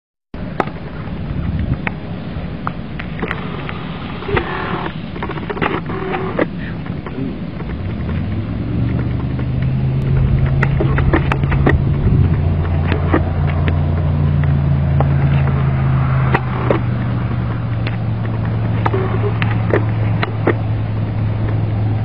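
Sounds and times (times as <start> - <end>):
vehicle engine idling: 0.5 - 22.0
sharp clicks: 2.6 - 22.0.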